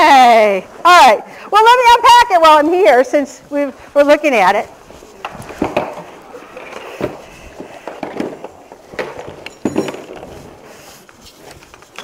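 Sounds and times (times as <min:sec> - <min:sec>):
fabric and straps rustling: 0:01.8 - 0:12.0.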